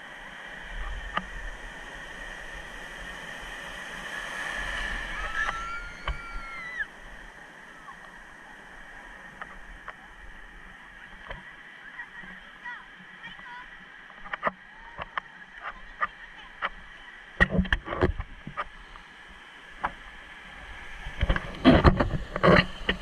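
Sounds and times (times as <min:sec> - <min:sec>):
surf washing and lapping: 0:00.0 - 0:23.0.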